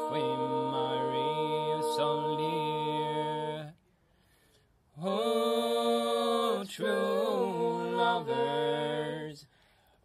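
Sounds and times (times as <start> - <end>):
group singing a cappella: 0.0 - 3.8, 4.9 - 9.6.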